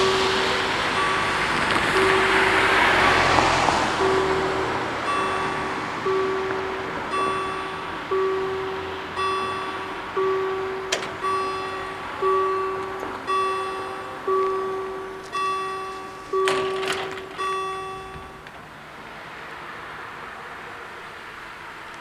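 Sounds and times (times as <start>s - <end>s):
level-crossing warning bells: 0.0s - 22.0s.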